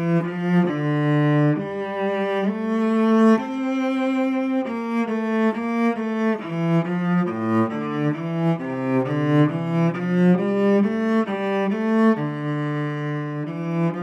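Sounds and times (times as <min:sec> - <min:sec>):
solo cello melody: 0:00.0 - 0:14.0.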